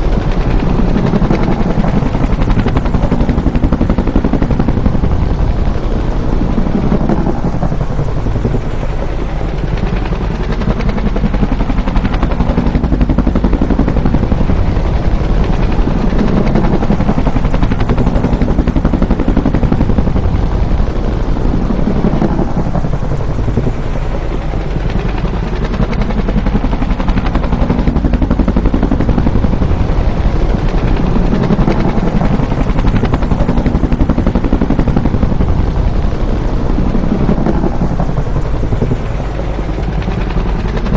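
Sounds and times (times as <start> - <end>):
helicopter rotor chop and turbine: 0.0 - 40.9.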